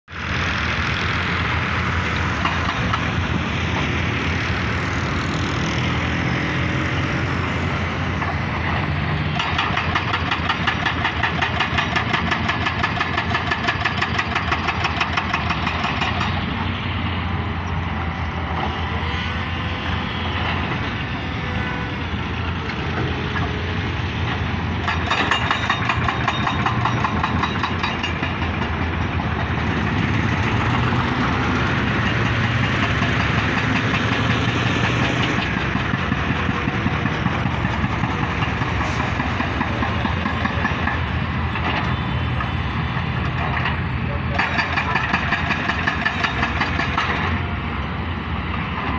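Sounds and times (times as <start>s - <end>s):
diesel engine rumble: 0.1s - 48.9s.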